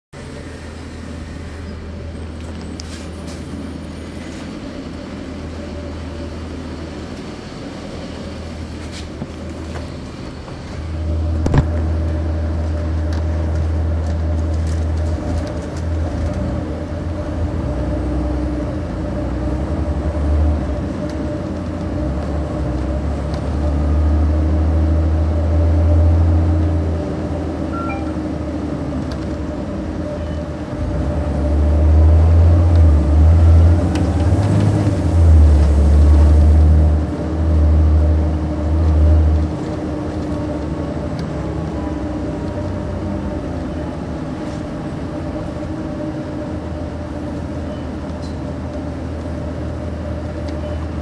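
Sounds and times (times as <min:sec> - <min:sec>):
bus diesel engine rumbling: 0:00.2 - 0:51.0.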